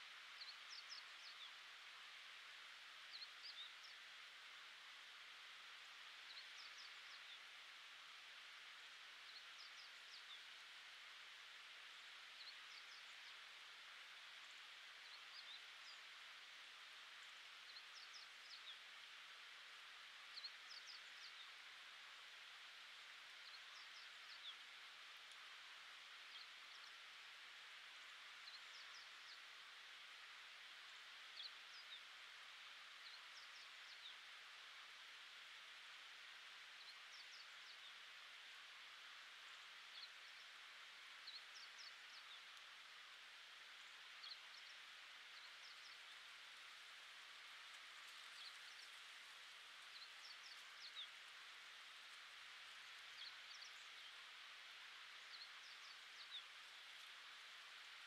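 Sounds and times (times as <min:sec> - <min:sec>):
faint outdoor hiss: 0:00.0 - 0:58.0.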